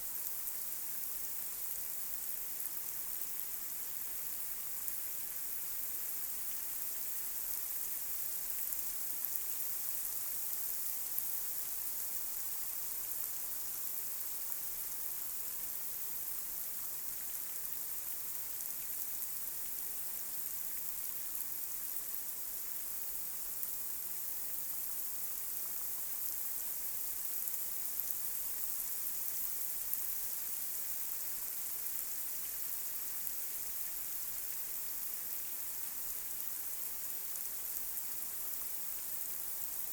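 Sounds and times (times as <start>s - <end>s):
light rain on a street: 0.0s - 39.9s.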